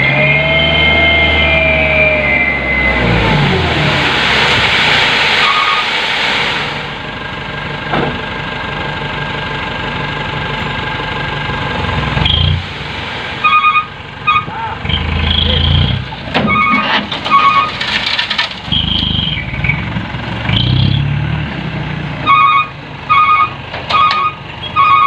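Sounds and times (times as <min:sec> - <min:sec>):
dump truck engine revving: 0:00.0 - 0:25.0.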